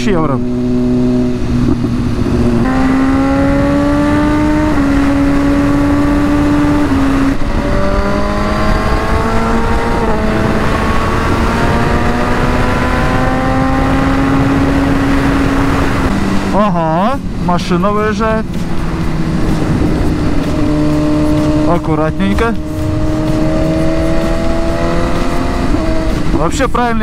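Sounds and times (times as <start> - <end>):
motorcycle engine: 0.0 - 26.6
rush of riding wind: 0.0 - 27.0.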